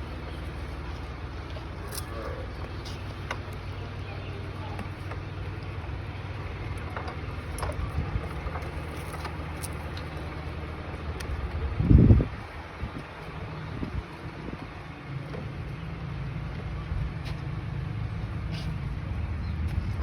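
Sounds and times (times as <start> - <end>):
loud low rumble: 0.0 - 20.0
low machine hum: 0.0 - 20.0.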